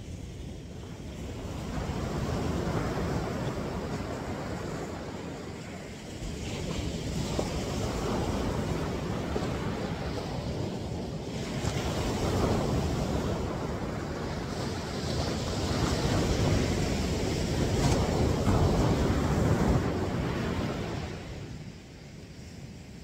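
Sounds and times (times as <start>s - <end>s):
ocean surf breaking: 0.0s - 23.0s
wind buffeting microphone: 0.0s - 23.0s.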